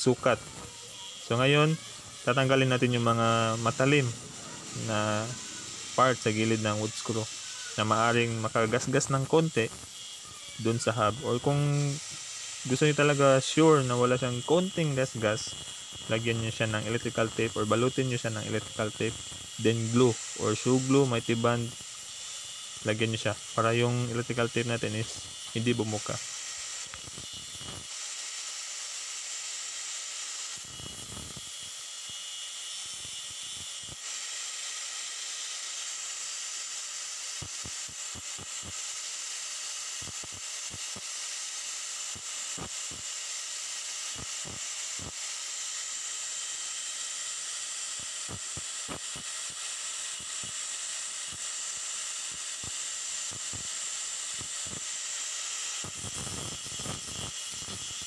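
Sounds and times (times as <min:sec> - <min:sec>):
angle grinder cutting: 0:00.0 - 0:58.0.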